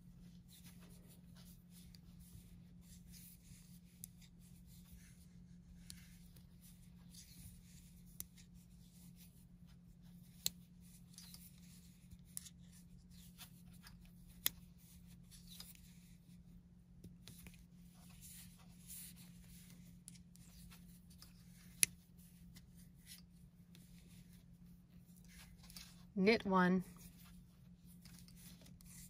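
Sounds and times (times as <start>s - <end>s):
yarn rubbing on knitting needles: 0.1s - 16.5s, 17.1s - 29.0s.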